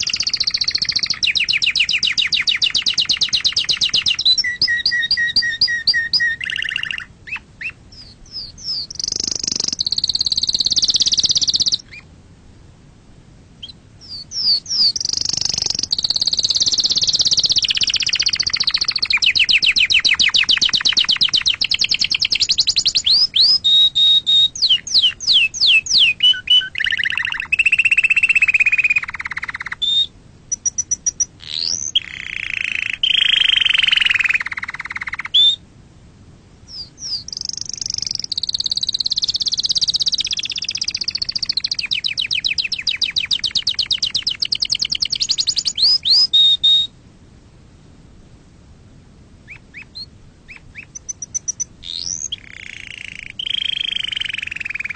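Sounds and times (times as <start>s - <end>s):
canary singing trills: 0.0s - 12.1s, 13.6s - 35.6s, 36.7s - 46.9s, 49.4s - 54.9s.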